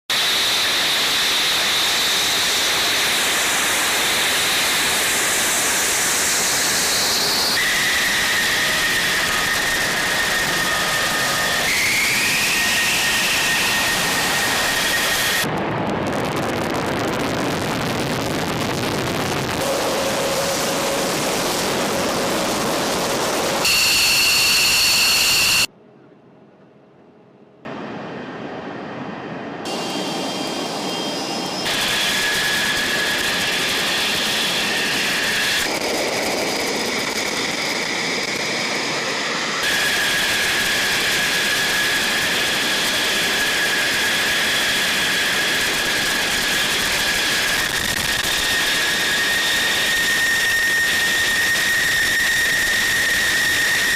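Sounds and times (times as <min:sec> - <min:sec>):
high-pitched turbine whine: 0:00.1 - 0:25.8, 0:27.6 - 0:53.9
jet engines roaring: 0:00.1 - 0:25.8, 0:27.6 - 0:53.9.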